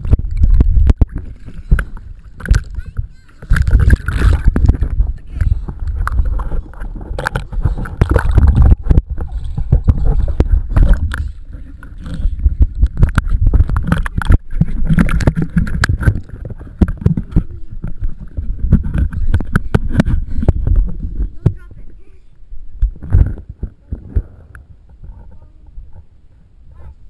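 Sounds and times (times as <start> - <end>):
pool water splashing: 0.0 - 24.8.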